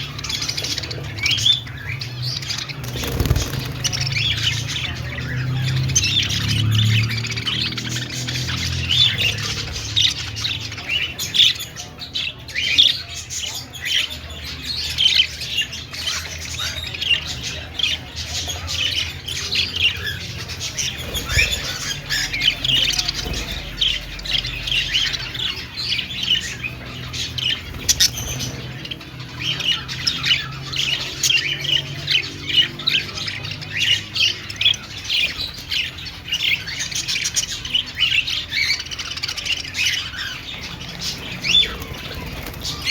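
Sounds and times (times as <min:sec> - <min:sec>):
budgerigars chirping and warbling: 0:00.0 - 0:42.9.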